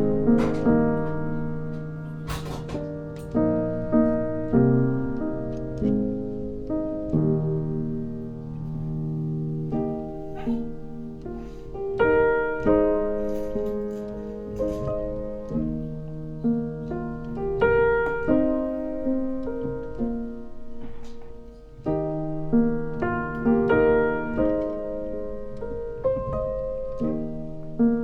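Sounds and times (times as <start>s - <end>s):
soft piano music: 0.0s - 28.0s.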